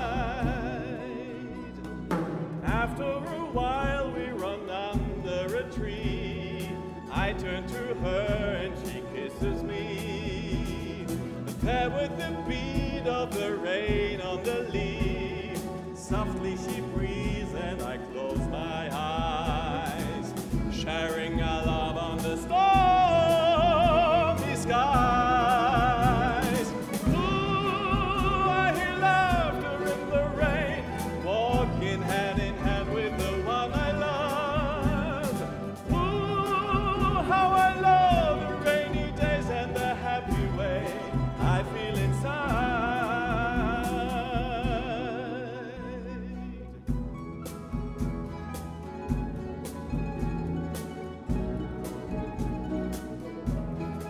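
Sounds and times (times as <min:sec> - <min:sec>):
man singing with vibrato: 0:00.0 - 0:01.7, 0:02.6 - 0:46.7
plucked string orchestra: 0:00.0 - 0:54.0.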